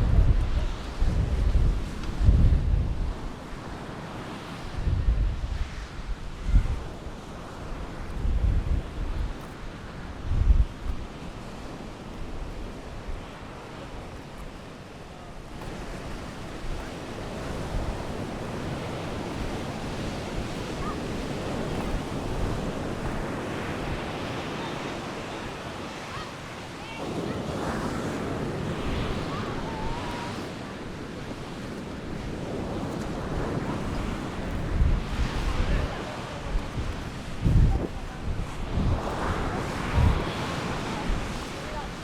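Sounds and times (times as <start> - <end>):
waves washing onto beach: 0.0 - 42.0
wind buffeting microphone: 0.0 - 42.0.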